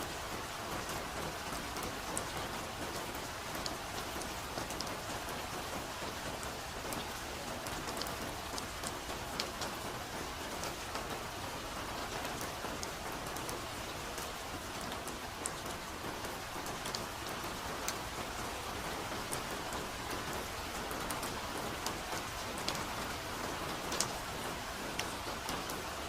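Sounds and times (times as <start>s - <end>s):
soft rain hiss: 0.0s - 26.0s.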